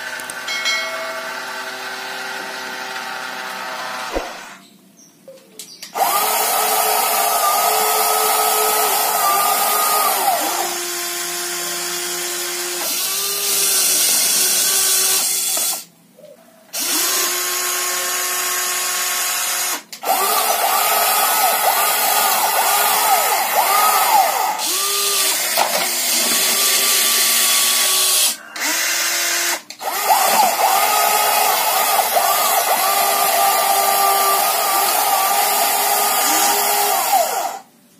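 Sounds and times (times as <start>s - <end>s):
toy vehicle electric motors whining: 5.9s - 15.9s, 16.7s - 37.7s.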